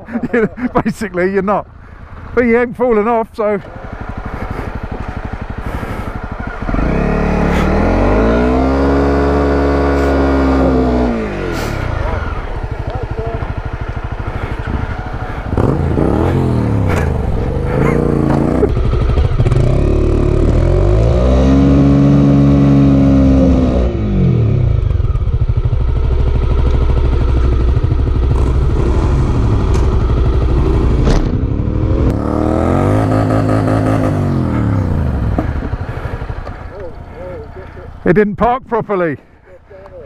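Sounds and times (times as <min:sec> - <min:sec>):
motorcycle engines revving: 0:00.0 - 0:38.2.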